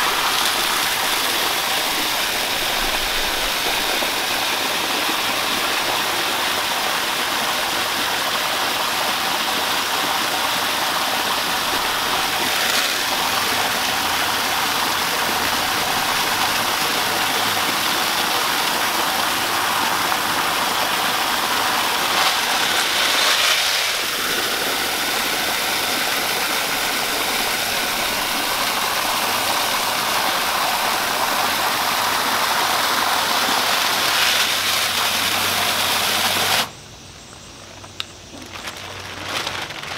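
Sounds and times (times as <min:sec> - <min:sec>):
water from hose pouring: 0:00.0 - 0:36.7.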